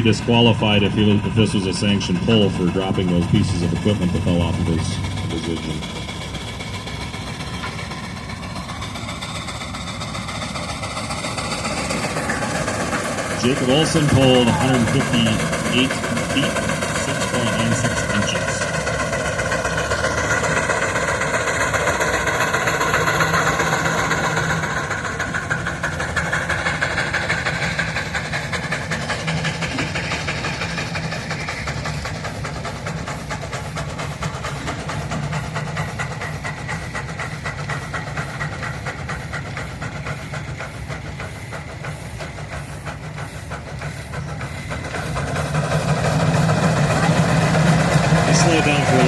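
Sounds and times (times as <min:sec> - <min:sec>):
steam engine exhaust chuffing: 0:00.0 - 0:49.0
steam hiss: 0:00.0 - 0:49.0.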